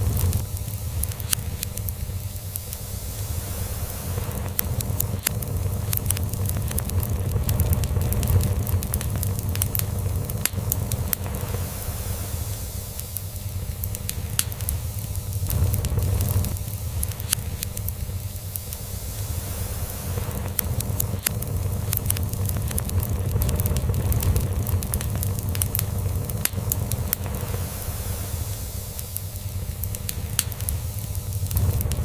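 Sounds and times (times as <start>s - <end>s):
log fire crackling and popping: 0.0s - 32.0s.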